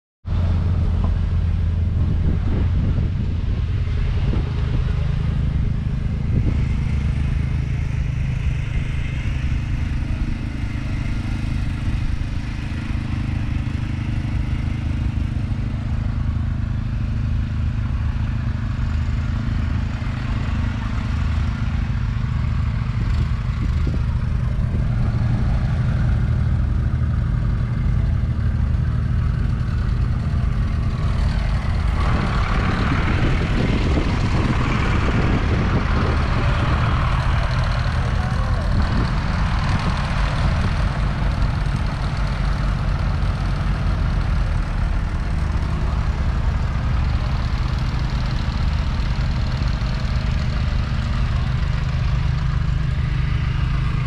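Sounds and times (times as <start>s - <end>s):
engine running steadily: 0.2s - 54.0s.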